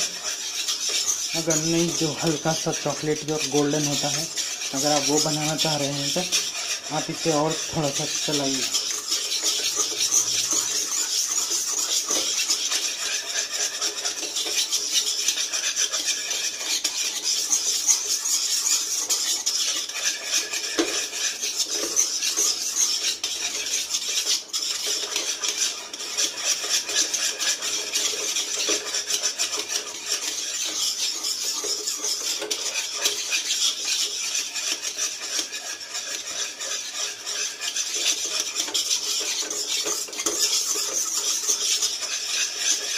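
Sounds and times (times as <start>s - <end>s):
spatula scraping pan: 0.0s - 42.9s.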